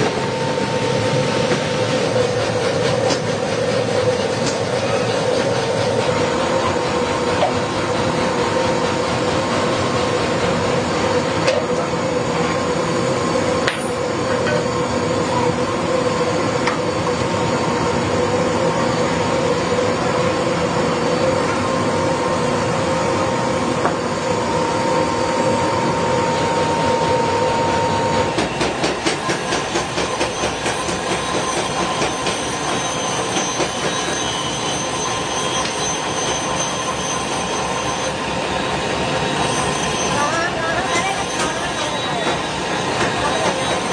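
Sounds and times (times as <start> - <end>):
machinery metallic whine: 0.0 - 43.9.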